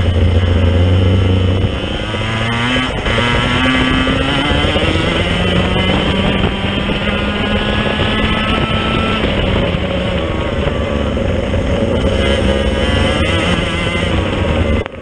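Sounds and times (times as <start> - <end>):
kart engine running hard: 0.0 - 15.0
wind rushing over microphone: 0.0 - 15.0.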